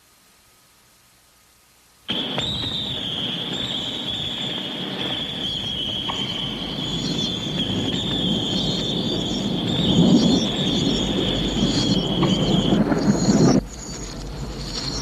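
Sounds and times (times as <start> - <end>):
high-pitched shrill tone: 2.1 - 15.0
low rumbling noise: 2.1 - 15.0.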